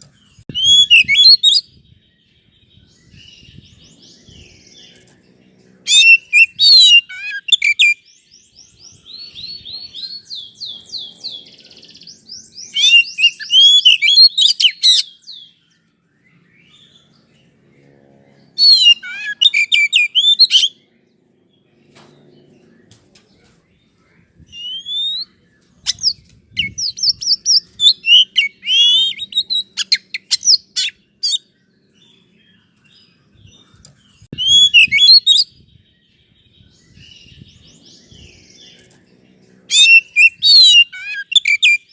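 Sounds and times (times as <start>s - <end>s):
songbird whistling and chirping: 0.0s - 5.2s, 5.8s - 17.4s, 18.4s - 20.8s, 23.8s - 41.9s.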